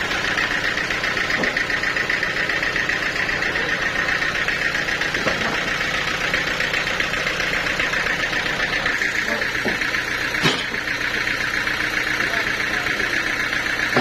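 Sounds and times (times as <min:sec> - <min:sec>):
high machine whine: 0:00.0 - 0:14.0
sawmill engine hum: 0:00.0 - 0:14.0.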